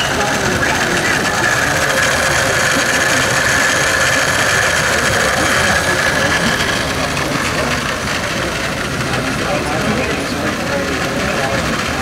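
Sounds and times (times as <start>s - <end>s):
plastic car travelling along track: 0.0s - 12.0s
toy roller coaster motor whir: 0.0s - 12.0s.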